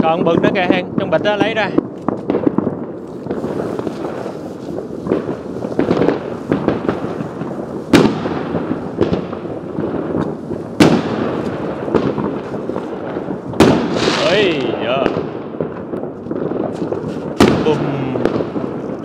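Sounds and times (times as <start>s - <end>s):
fireworks crackling and rumbling: 0.0s - 19.0s
loud firework bangs: 0.0s - 19.0s.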